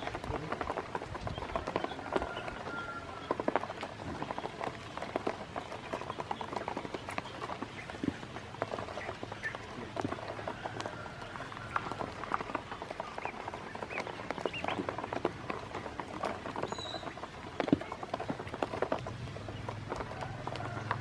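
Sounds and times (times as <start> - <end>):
ducklings pecking and splashing: 0.0 - 21.0
ducklings peeping: 0.0 - 21.0.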